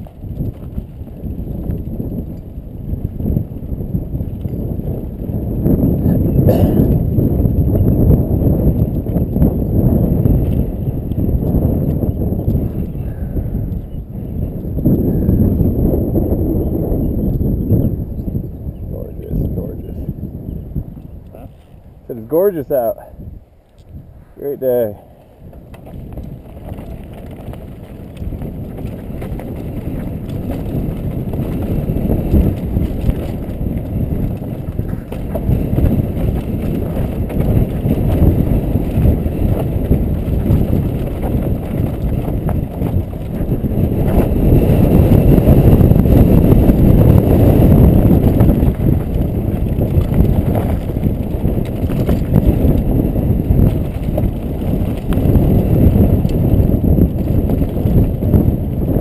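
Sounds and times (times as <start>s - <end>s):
bike rattling over bumps: 0.0s - 23.0s, 23.9s - 59.0s
bike tyres rolling over dirt: 0.0s - 59.0s
wind rushing over microphone: 0.0s - 59.0s.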